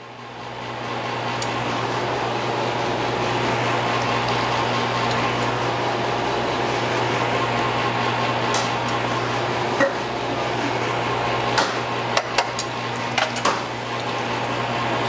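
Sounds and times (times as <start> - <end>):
kitchen range hissing and humming: 0.0 - 15.0.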